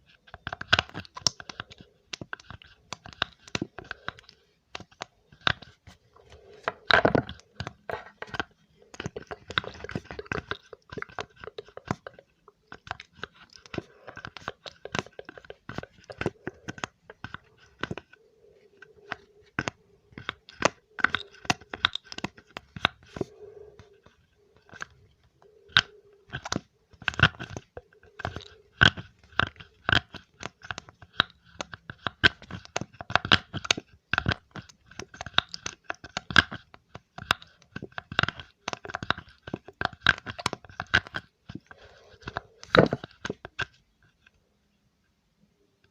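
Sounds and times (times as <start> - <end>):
crisp clicks and crunches: 0.0 - 44.4.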